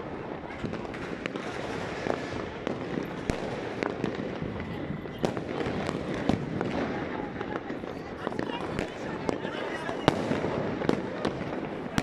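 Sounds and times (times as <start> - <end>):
distant fireworks bangs and pops: 0.0 - 12.0
sharp firework bangs: 0.0 - 12.0.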